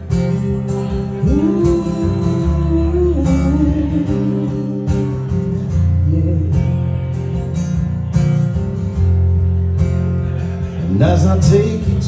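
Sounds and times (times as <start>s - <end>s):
guitar strumming ballad chords: 0.0s - 12.0s.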